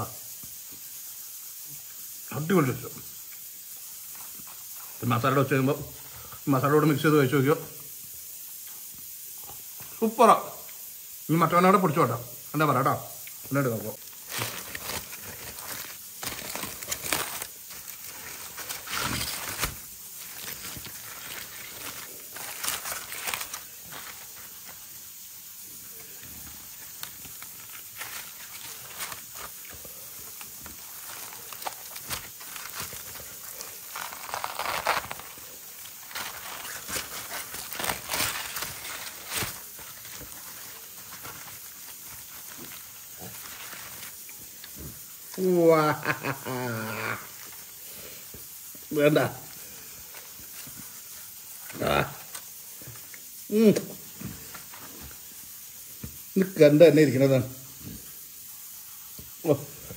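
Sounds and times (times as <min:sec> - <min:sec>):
aluminium foil crinkling: 0:02.0 - 0:07.6, 0:12.6 - 0:56.7.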